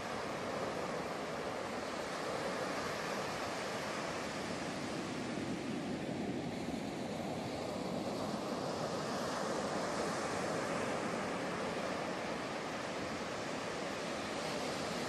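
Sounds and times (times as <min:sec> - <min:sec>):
waves breaking on shore: 0:00.0 - 0:15.0
wind: 0:00.0 - 0:15.0.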